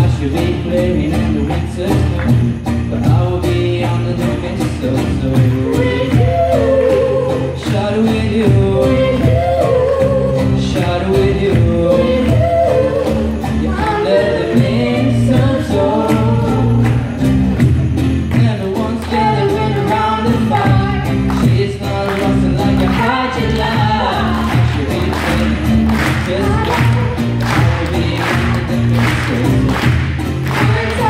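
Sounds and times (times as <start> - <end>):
lead vocal singing: 0.0 - 17.2, 18.2 - 31.0
cajon beat: 0.0 - 31.0
electric bass: 0.0 - 31.0
strummed acoustic guitars: 0.0 - 31.0.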